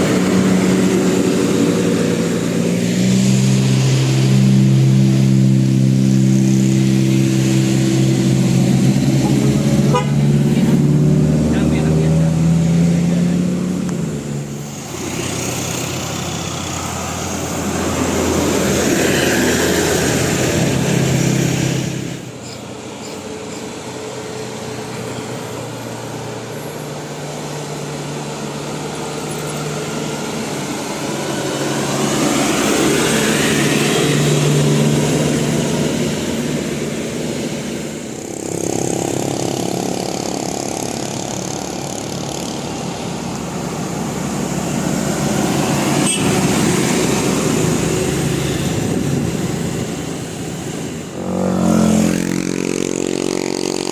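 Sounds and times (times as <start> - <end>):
engine revving: 0.0 - 22.5, 23.4 - 53.9
buses driving past: 0.0 - 53.9.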